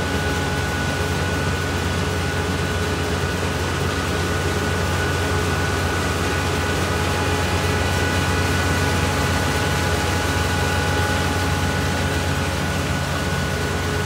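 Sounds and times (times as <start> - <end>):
combine harvester running: 0.0 - 14.0.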